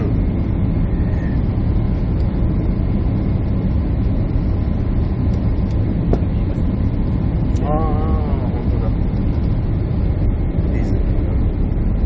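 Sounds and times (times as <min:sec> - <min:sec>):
airliner cabin engine noise: 0:00.0 - 0:12.0.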